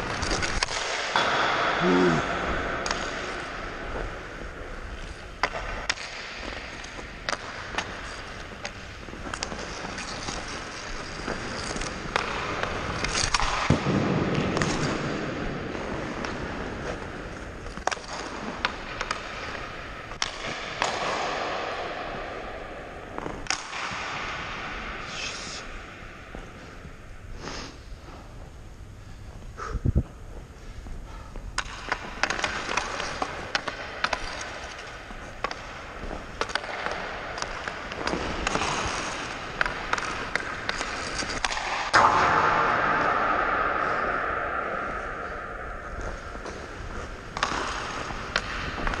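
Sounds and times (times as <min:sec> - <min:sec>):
hockey stick clacking puck: 0:00.0 - 0:01.7, 0:02.8 - 0:22.5, 0:23.2 - 0:24.6, 0:31.6 - 0:49.0
skates scraping on ice: 0:00.0 - 0:28.4, 0:31.6 - 0:49.0.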